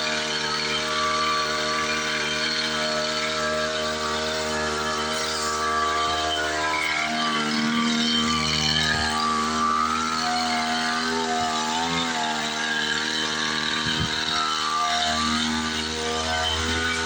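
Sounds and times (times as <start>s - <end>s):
small engine running steadily: 0.0s - 17.0s.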